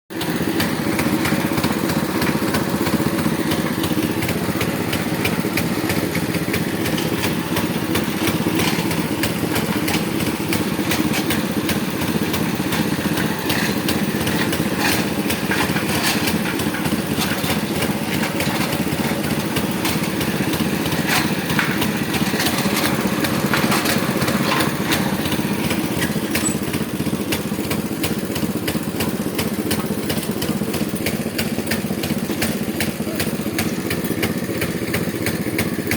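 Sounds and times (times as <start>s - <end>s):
drilling machine engine running: 0.2s - 35.9s.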